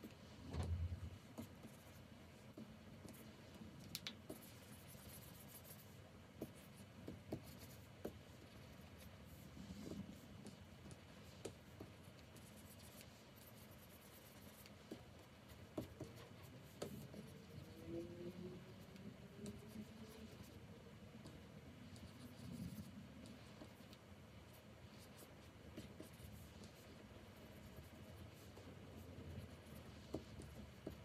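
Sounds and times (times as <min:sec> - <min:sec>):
soft scratching: 0:00.0 - 0:31.0.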